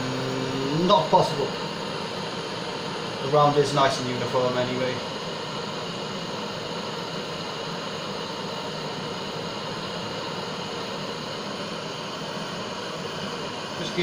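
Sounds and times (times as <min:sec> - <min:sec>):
gas torch flame hissing: 0:00.0 - 0:14.0.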